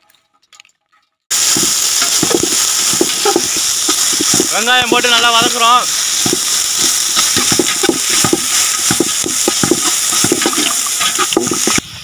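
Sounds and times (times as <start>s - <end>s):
onions sizzling in oil: 1.3s - 12.0s.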